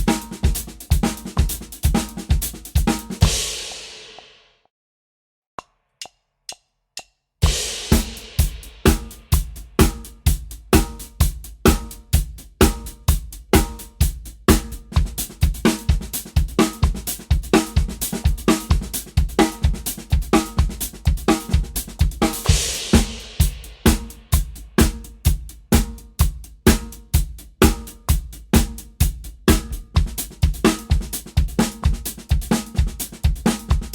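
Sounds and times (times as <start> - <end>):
drum kit playing: 0.0 - 4.5, 7.4 - 33.9.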